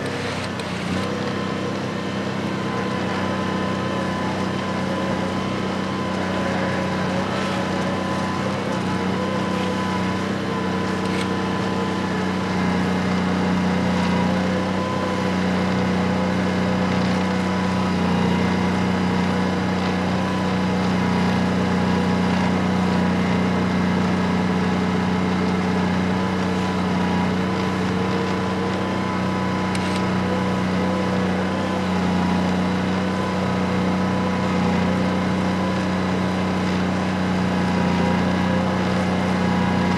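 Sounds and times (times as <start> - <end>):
engine humming under load: 0.0 - 39.9.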